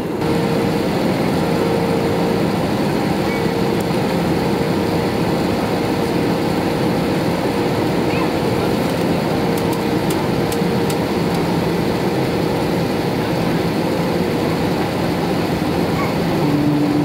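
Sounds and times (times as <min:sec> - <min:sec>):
airplane cabin engine roar: 0:00.0 - 0:17.0.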